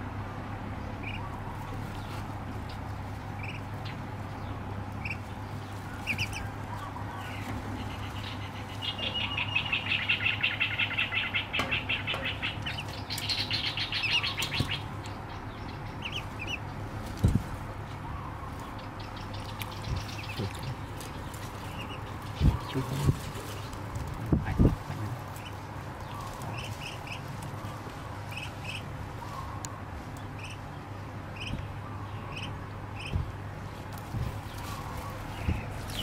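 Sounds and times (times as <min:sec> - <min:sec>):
duckling peeping: 0:00.9 - 0:23.8, 0:24.4 - 0:30.7, 0:31.3 - 0:33.4.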